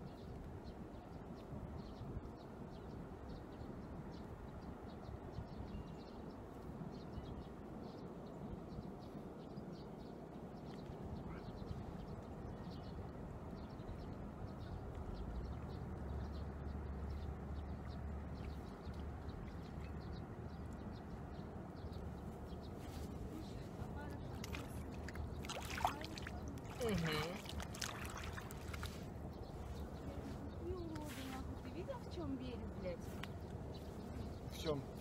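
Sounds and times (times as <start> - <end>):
wind blowing over microphone: 0.0 - 35.0.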